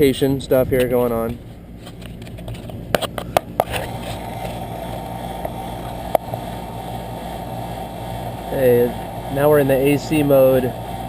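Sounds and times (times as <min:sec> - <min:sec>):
blower motor air rush: 0:00.0 - 0:11.0.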